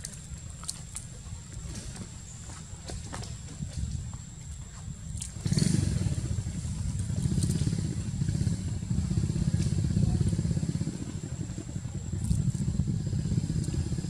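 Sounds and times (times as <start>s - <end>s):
small engine rumbling: 0.0s - 14.0s.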